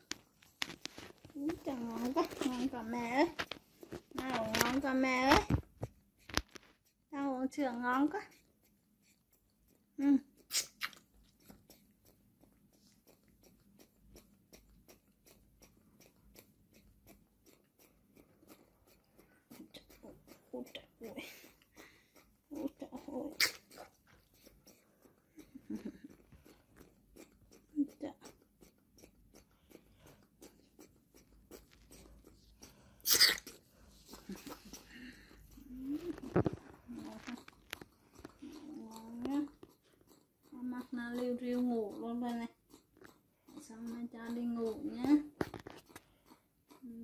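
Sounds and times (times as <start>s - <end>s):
baby monkey sucking bottle: 0.0s - 47.0s.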